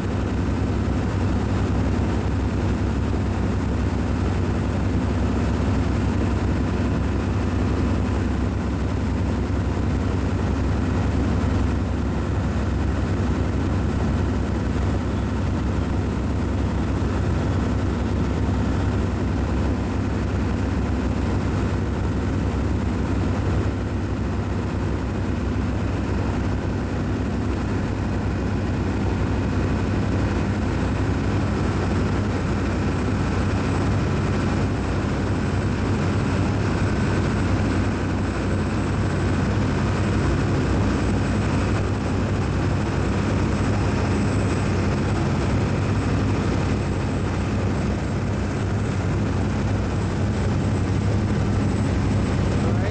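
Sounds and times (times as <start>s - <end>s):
ship machinery drone: 0.0s - 52.9s.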